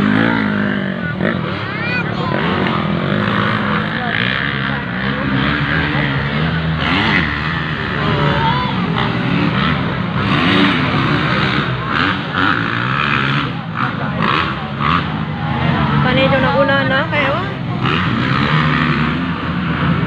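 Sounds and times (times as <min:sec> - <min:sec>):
dirt bike engines revving: 0:00.0 - 0:20.0
spectators' voices: 0:00.0 - 0:20.0.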